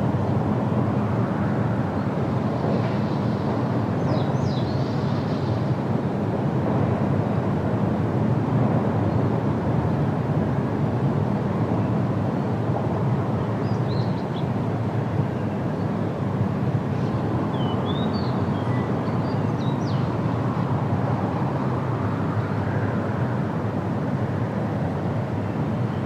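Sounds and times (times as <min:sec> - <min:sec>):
wind rushing through trees: 0:00.0 - 0:26.0.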